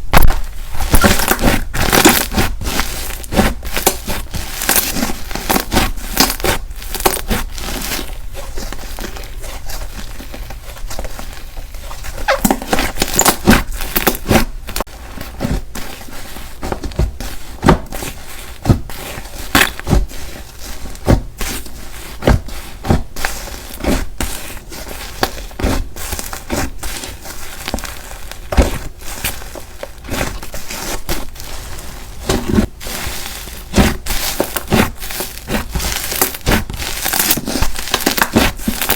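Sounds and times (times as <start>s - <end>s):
slime being squished by hand: 0.0s - 38.9s.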